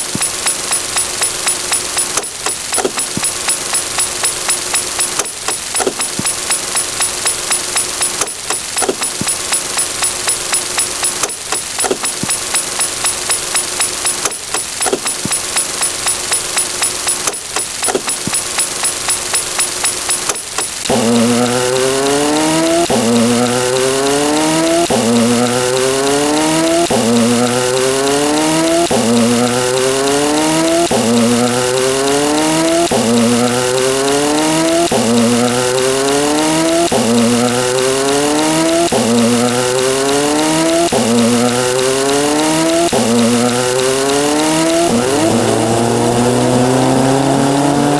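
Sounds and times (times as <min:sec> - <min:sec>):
motor revving sound effect: 0:00.0 - 0:47.9
rapid mechanical rattle: 0:00.0 - 0:47.9.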